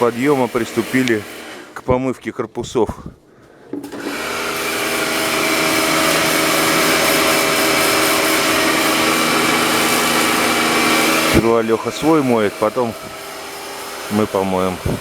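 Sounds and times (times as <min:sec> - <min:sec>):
pressure washer motor hum: 0:00.0 - 0:01.9, 0:03.8 - 0:15.0.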